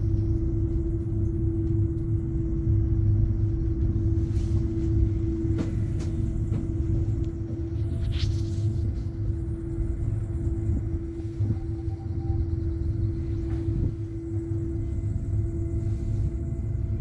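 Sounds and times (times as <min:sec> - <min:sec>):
cable car cabin rumble: 0:00.0 - 0:17.0.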